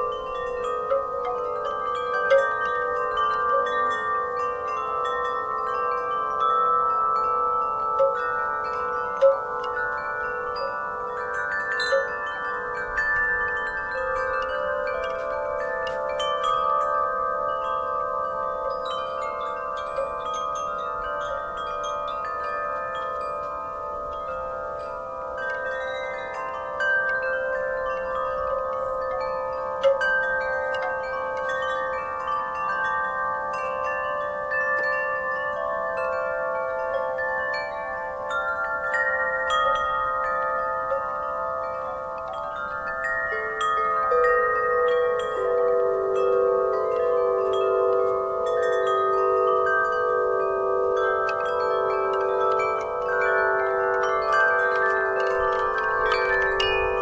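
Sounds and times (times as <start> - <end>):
lower chime: 0.0 - 57.0
wind chimes ringing: 0.0 - 57.0.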